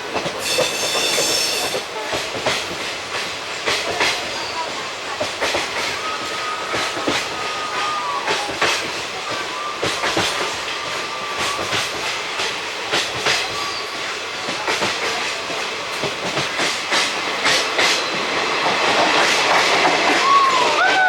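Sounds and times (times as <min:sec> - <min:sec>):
train wheels clattering over joints: 0:00.0 - 0:20.4
train rumble: 0:00.0 - 0:21.0.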